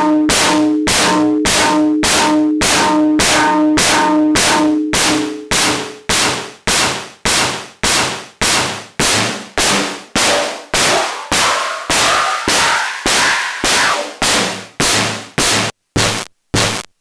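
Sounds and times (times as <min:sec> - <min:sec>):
synthesizer percussive hits: 0:00.0 - 0:16.8.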